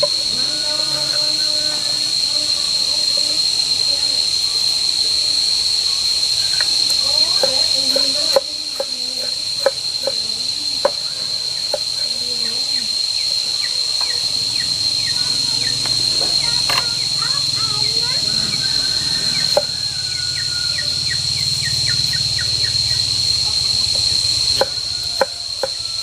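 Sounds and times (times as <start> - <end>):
insects shrilling: 0.0 - 26.0.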